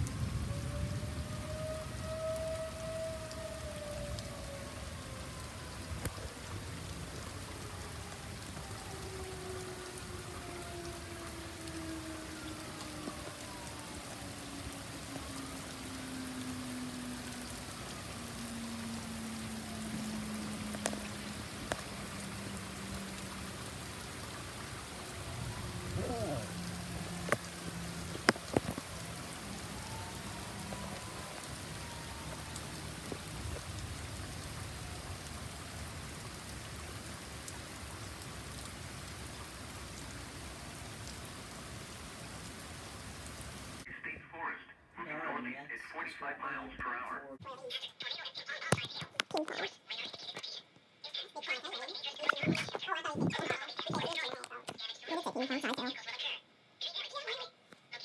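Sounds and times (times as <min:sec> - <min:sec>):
heavy rain falling: 0:00.0 - 0:43.9, 0:47.5 - 0:56.2.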